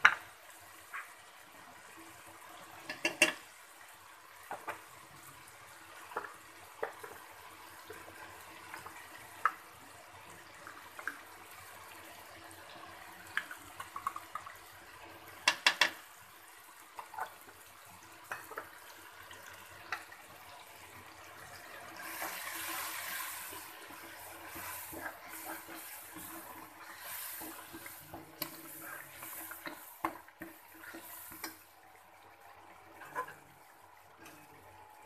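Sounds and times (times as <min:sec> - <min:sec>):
food sizzling in hot oil: 0:01.8 - 0:31.8.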